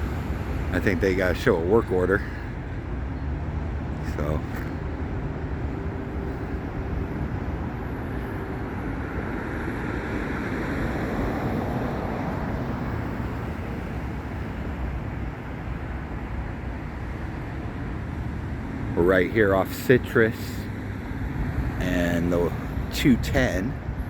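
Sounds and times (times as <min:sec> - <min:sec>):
freeway traffic noise: 0:00.0 - 0:24.0.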